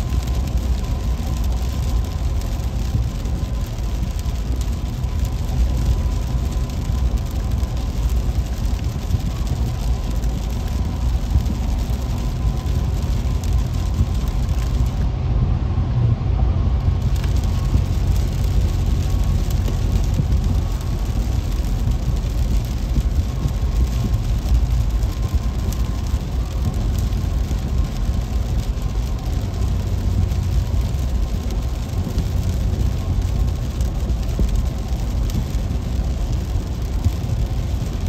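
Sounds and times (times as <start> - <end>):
engine and tyre rumble: 0.0 - 38.0
hiss of rain and spray: 0.0 - 38.0.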